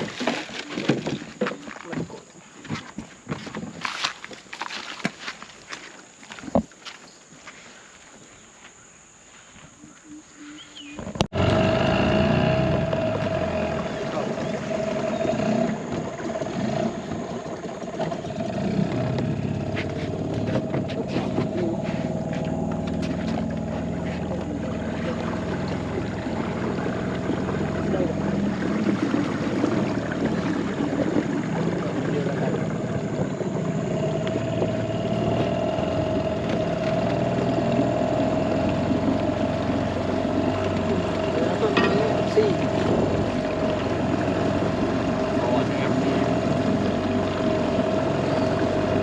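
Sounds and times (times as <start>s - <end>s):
outboard motor running: 0.0s - 5.4s, 10.7s - 49.0s.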